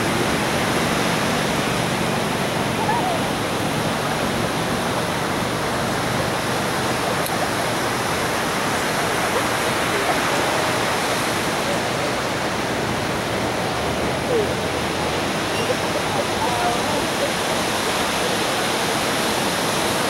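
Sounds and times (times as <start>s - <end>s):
ocean surf washing on beach: 0.0s - 20.0s.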